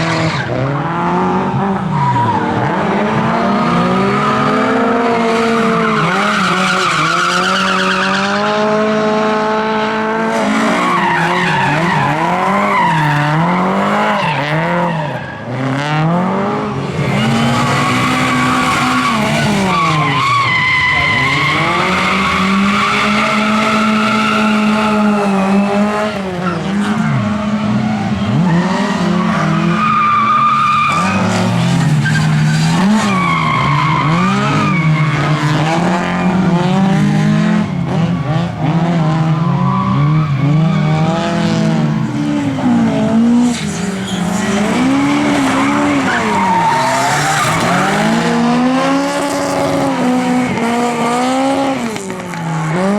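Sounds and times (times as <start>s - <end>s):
racing car engines at high revs: 0.0s - 52.9s.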